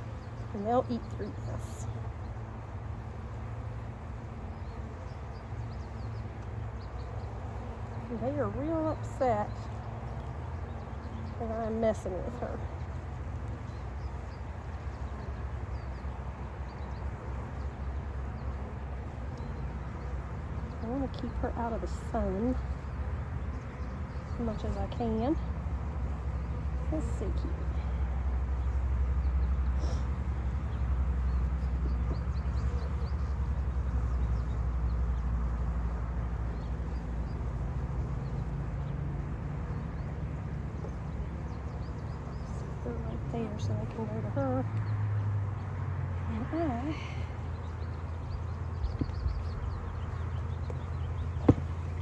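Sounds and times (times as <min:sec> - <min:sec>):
honeybees buzzing: 0:00.0 - 0:52.0.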